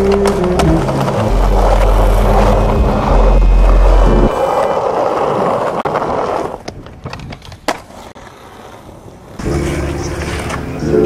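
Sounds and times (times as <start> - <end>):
skateboard wheels rolling on concrete: 0.0 - 11.0.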